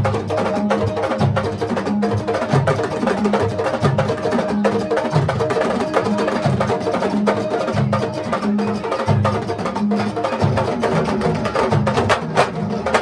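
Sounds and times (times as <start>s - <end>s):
drum ensemble playing fast rhythm: 0.0s - 13.0s.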